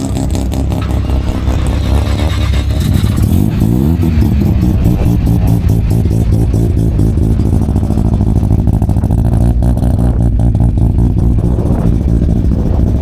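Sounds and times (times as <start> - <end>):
rotary engine pulsing exhaust: 0.0 - 13.0.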